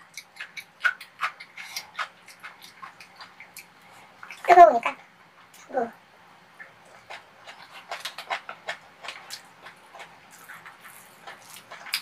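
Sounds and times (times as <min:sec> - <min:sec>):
wet chewing and lip smacks: 0:00.0 - 0:04.5, 0:06.6 - 0:12.0.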